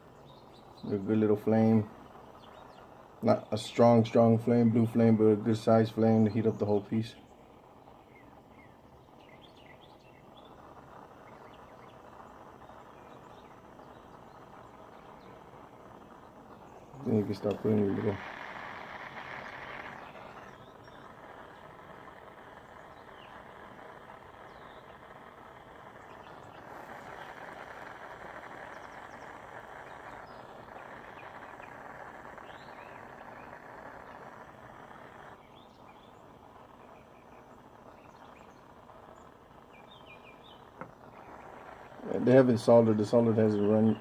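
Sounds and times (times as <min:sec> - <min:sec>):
birds chirping: 0:00.0 - 0:44.0
torch flame hissing: 0:00.0 - 0:44.0.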